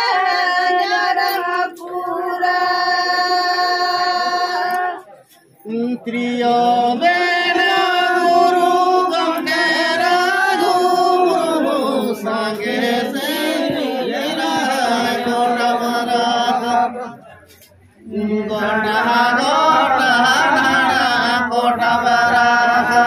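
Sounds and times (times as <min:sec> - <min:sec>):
group singing chant-like song: 0:00.0 - 0:23.0.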